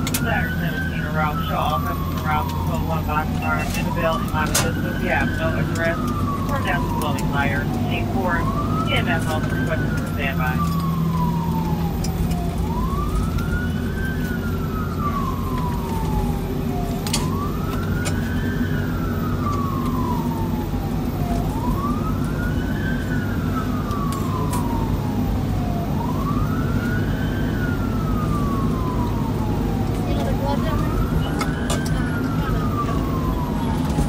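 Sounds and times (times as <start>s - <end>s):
engine and road rumble: 0.0s - 34.0s
fire engine siren wailing: 0.0s - 34.0s.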